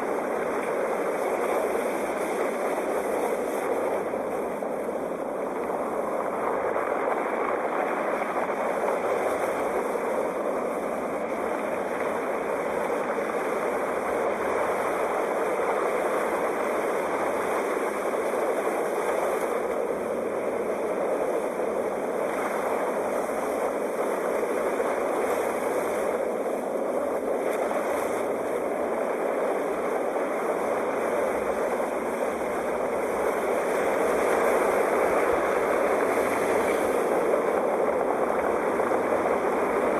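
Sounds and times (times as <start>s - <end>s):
sea waves washing: 0.0s - 39.9s.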